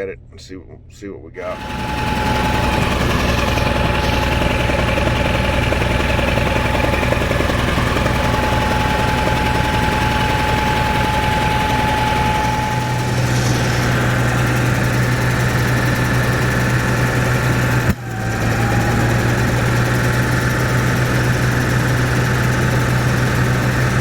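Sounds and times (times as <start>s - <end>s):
thin steady whine: 1.4s - 24.0s
engine running with misfire: 1.5s - 24.0s.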